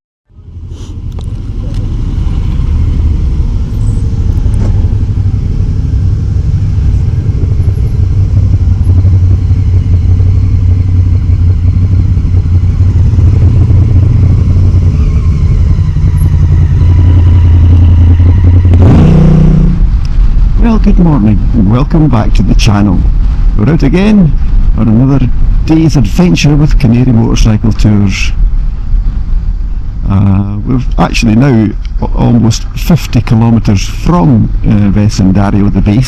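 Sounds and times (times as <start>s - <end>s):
motorcycle engine running: 0.3s - 36.0s.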